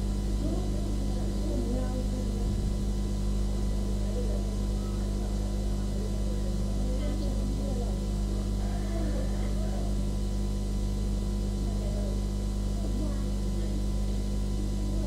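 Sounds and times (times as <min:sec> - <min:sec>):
faint voices: 0:00.0 - 0:15.0
low electrical hum: 0:00.0 - 0:15.0.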